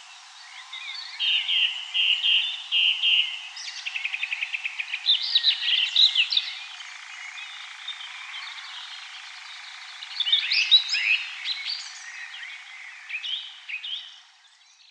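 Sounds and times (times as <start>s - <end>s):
songbirds chirping and trilling: 0.0s - 14.9s.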